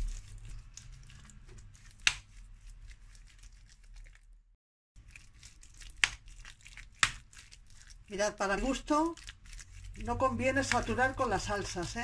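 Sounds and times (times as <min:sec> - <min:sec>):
fork mashing potato salad: 0:00.0 - 0:04.3, 0:05.0 - 0:11.8.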